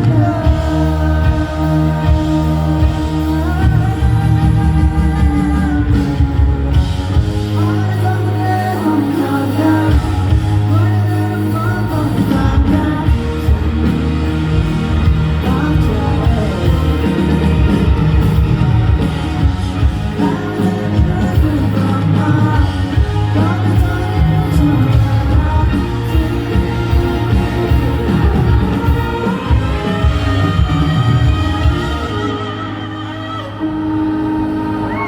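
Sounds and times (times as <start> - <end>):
person singing: 0.0 - 35.0
pop-rock band playing live: 0.0 - 35.0.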